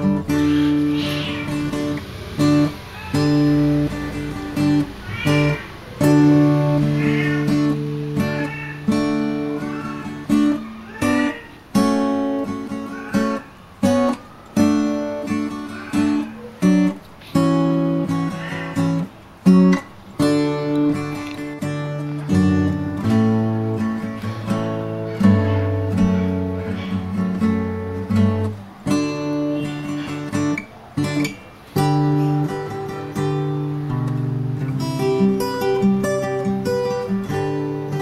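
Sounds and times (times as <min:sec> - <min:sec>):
acoustic guitar music: 0:00.0 - 0:38.0.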